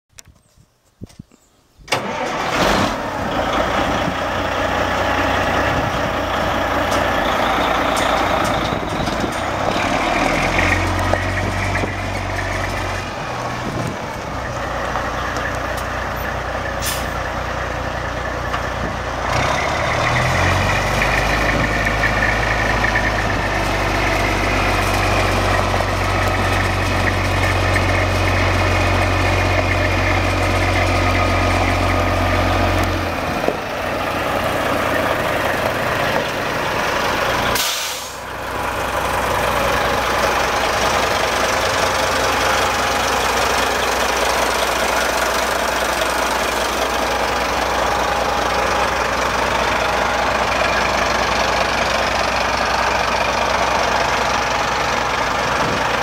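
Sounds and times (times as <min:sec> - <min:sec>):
diesel engine starting and idling: 0:01.8 - 0:56.0.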